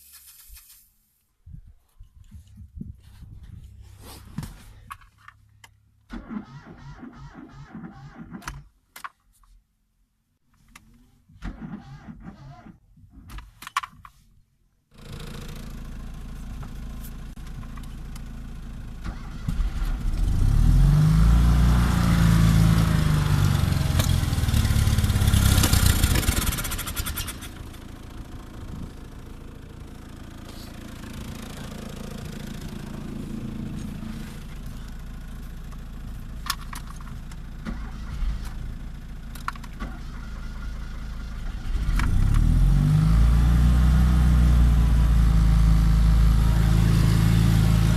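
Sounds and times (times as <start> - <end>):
small car engine idling and revving: 2.2 - 8.7, 10.7 - 13.6, 14.9 - 47.9.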